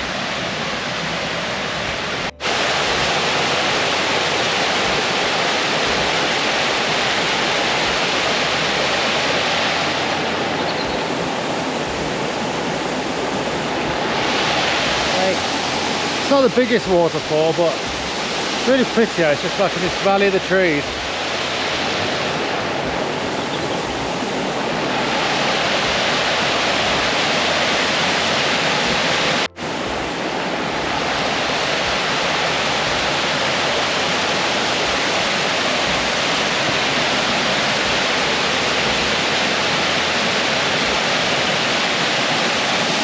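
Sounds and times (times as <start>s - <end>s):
water rushing in waterfall: 0.0s - 43.0s.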